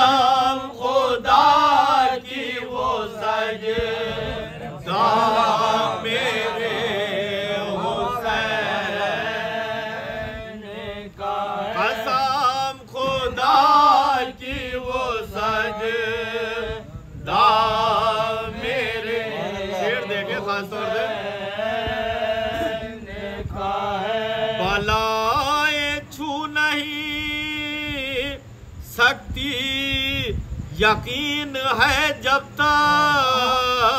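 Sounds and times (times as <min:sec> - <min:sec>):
men chanting a lament: 0:00.0 - 0:33.9.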